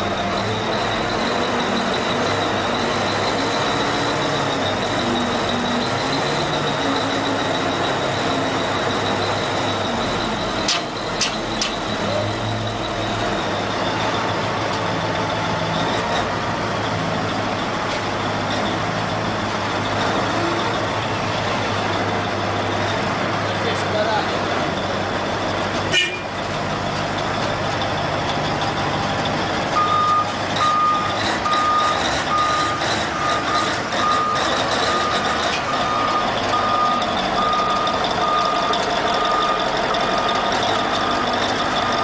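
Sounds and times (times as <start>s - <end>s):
diesel engine under load: 0.0s - 42.0s.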